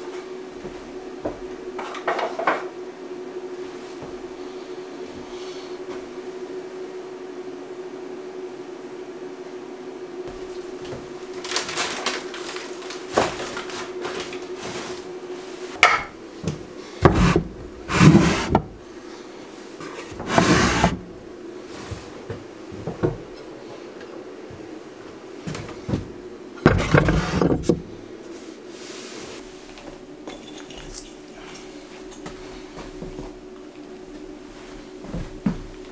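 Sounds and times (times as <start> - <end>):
steady hum: 0.0 - 35.9.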